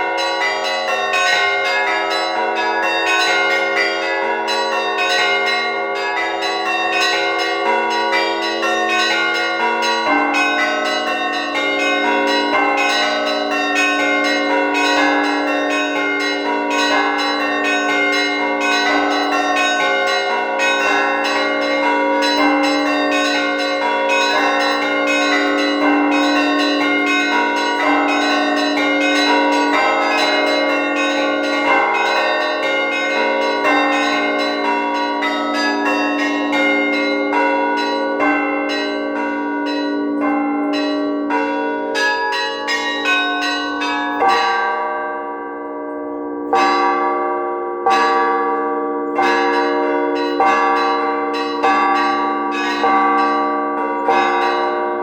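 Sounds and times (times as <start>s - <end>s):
small church bells pealing: 0.0s - 55.0s.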